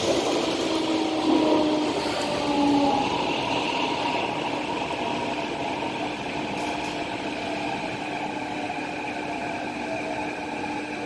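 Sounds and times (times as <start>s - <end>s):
train humming and whining: 0.0s - 11.0s.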